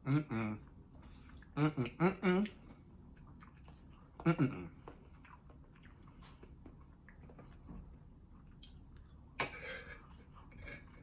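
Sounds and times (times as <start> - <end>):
close chewing with mouth smacks: 0.7 - 10.6.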